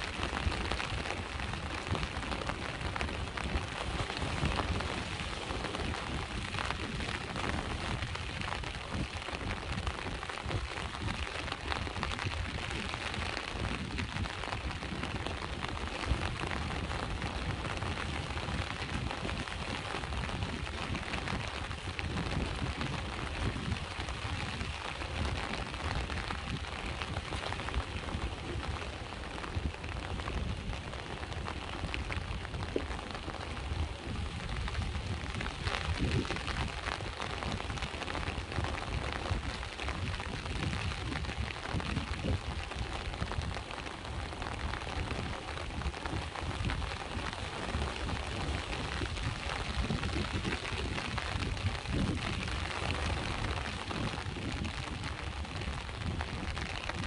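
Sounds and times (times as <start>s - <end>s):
rain drops ticking: 0.0s - 57.0s
sea waves rumbling: 0.0s - 57.0s.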